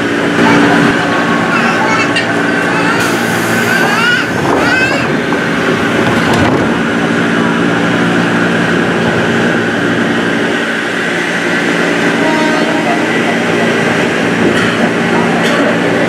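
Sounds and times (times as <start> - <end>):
train mechanical hum: 0.0 - 16.0.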